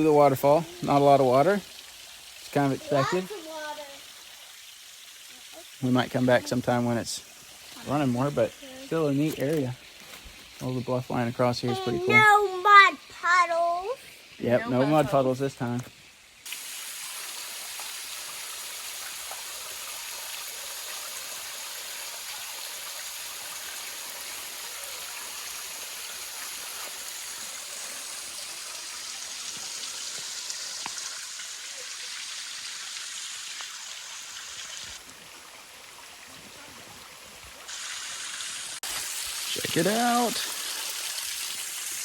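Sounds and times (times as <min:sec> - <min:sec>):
water trickling over rock: 0:00.0 - 0:42.0.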